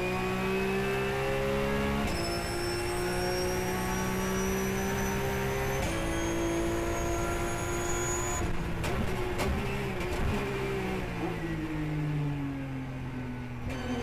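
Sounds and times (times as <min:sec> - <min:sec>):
race car engine at full throttle: 0:00.0 - 0:14.0.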